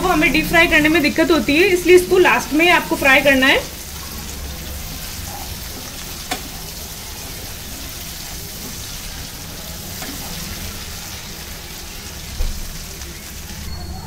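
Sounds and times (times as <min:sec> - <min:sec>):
dumplings sizzling in hot oil: 0:00.0 - 0:13.7.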